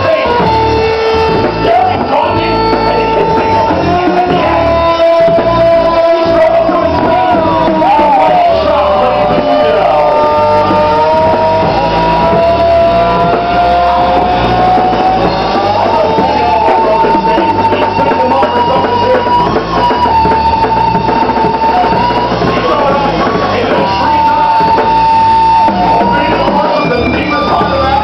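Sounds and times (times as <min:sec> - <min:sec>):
bass line: 0:00.0 - 0:28.0
gliding electric guitar notes: 0:00.0 - 0:28.0
loud rock music: 0:00.0 - 0:28.0.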